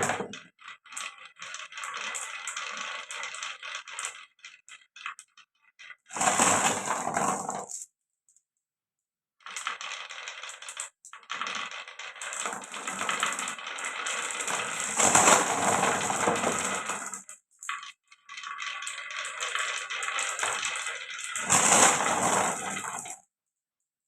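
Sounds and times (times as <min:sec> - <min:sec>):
marbles clattering down marble run: 0:00.0 - 0:07.8, 0:09.4 - 0:23.2.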